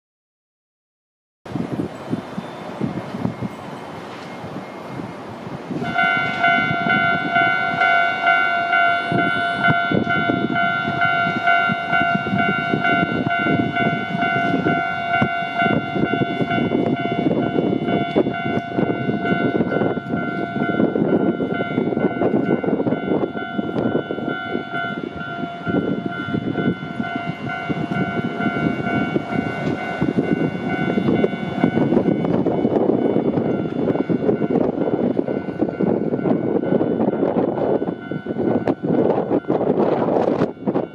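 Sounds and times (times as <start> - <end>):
heavy rumbling noise: 1.5 - 40.9
level crossing warning alarm: 5.8 - 40.9.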